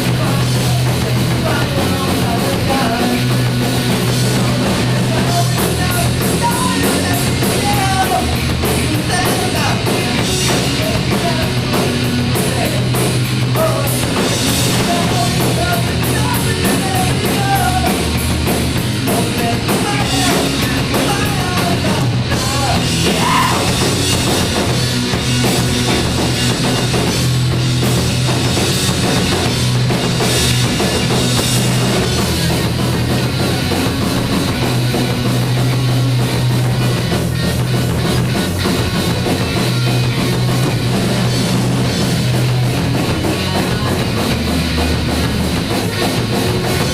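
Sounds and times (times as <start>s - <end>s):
electric guitars: 0.0s - 46.9s
loud drum kit: 0.0s - 46.9s
rock band playing live: 0.0s - 46.9s.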